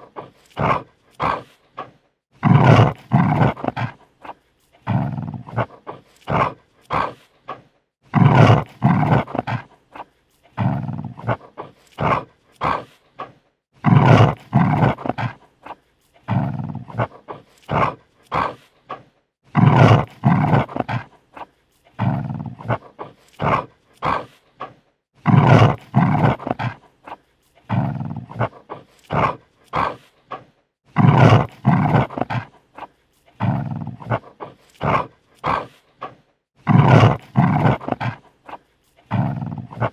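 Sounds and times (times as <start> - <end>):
dog snarling: 0.0 - 39.9.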